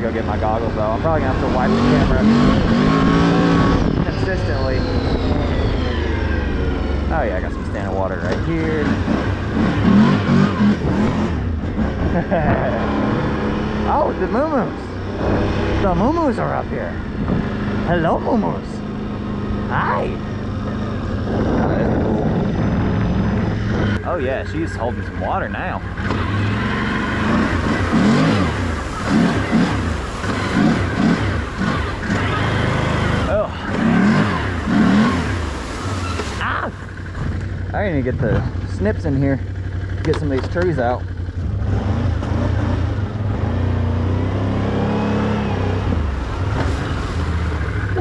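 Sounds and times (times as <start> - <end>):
steady rushing noise: 0.0 - 40.0
off-road vehicle engine revving: 0.0 - 48.0.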